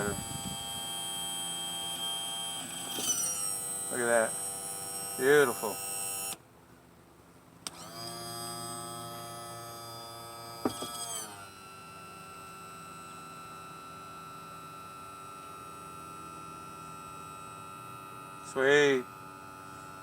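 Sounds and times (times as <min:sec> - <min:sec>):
electric pump motor humming: 0:00.0 - 0:06.4, 0:07.6 - 0:20.0.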